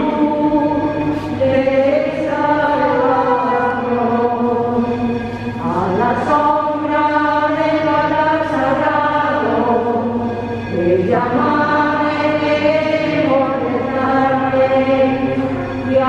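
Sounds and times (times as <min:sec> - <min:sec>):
voices singing a slow hymn: 0:00.0 - 0:16.0.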